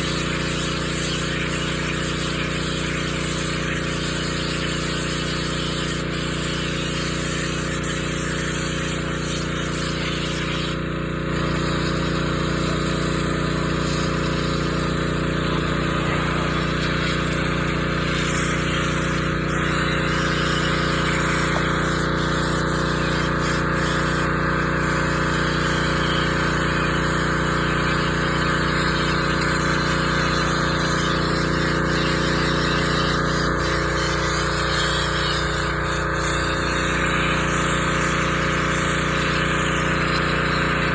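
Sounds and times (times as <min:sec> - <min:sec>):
pressure washer motor humming: 0:00.0 - 0:40.9
water spray hissing: 0:00.0 - 0:40.9.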